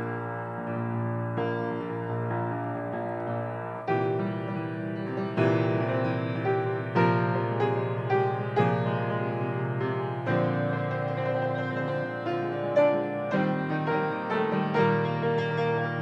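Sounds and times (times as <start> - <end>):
grand piano waltz: 0.0 - 16.0.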